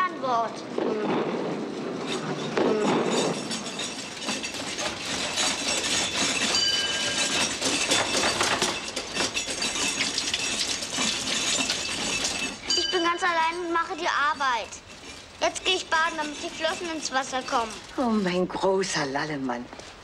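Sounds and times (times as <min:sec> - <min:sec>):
short metallic rings: 0:00.0 - 0:19.4
crockery knocking and clinking: 0:00.7 - 0:19.4
dishwasher clattering: 0:01.6 - 0:18.2.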